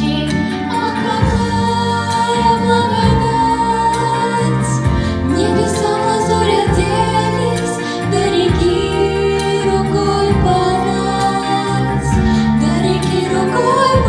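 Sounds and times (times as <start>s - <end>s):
girls singing: 0.0s - 14.0s
sustained instrumental accompaniment: 0.0s - 14.0s.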